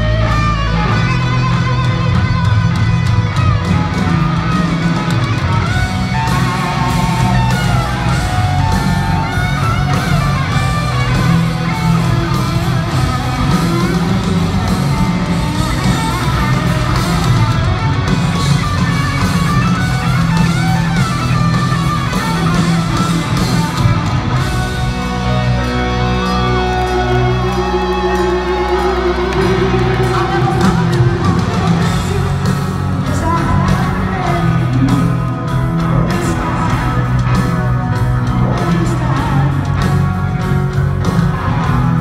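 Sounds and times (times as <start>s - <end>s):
bass: 0.0s - 42.0s
drums: 0.0s - 42.0s
electric guitar lead with bending notes: 0.0s - 42.0s.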